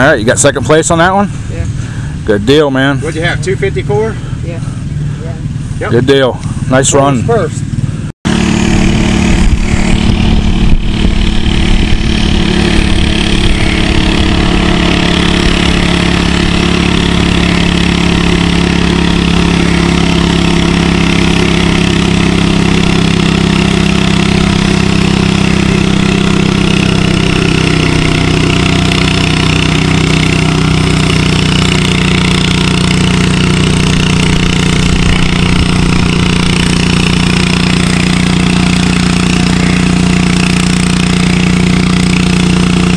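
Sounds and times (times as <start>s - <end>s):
tractor engine running under load: 7.6s - 42.9s.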